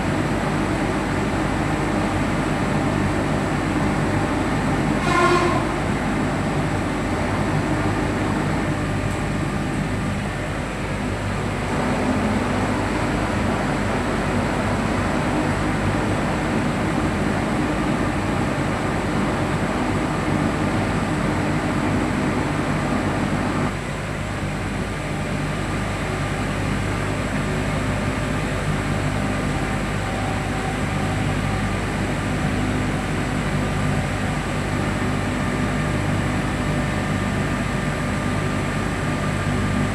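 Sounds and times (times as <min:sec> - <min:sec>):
locomotive running hum: 0:00.0 - 0:39.9.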